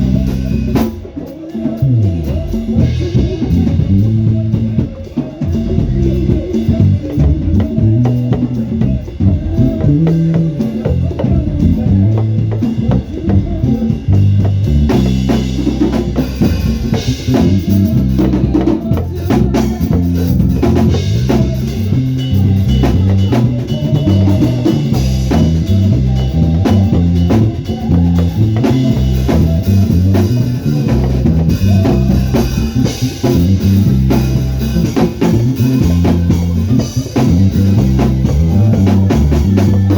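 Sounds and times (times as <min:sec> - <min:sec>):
bass line: 0:00.0 - 0:39.9
drum kit: 0:00.0 - 0:39.9
up-tempo praise music: 0:00.0 - 0:39.9.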